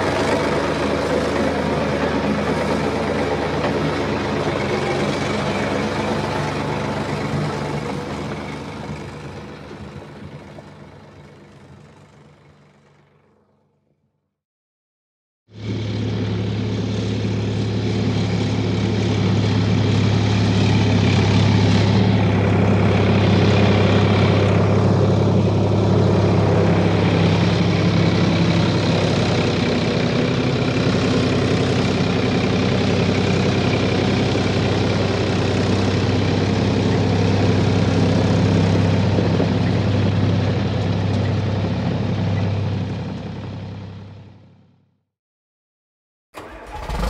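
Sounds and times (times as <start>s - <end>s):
heavy engine humming steadily: 0.0s - 13.9s, 15.5s - 44.9s.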